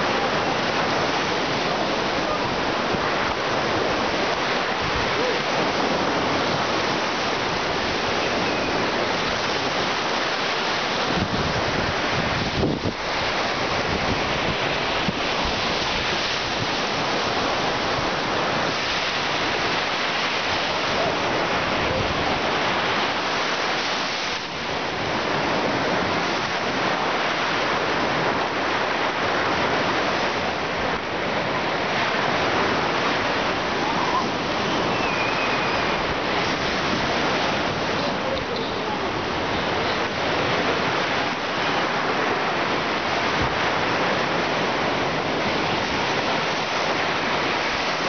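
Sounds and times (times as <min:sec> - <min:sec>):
surf washing onto beach: 0:00.0 - 0:48.0.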